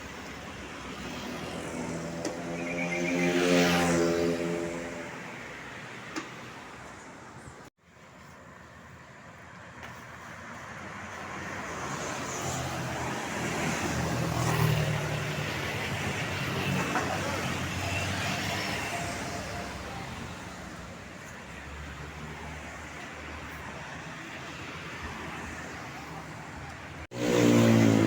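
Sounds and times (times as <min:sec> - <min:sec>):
road vehicle passing by: 0:00.0 - 0:07.4, 0:08.2 - 0:28.0.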